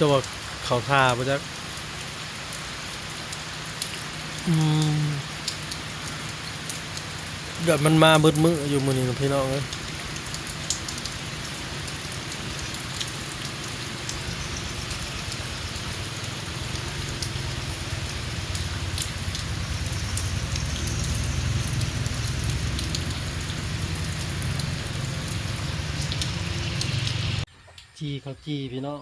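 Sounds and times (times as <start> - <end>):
heavy rain falling: 0.0 - 27.5
sharp raindrop hits: 0.2 - 27.4.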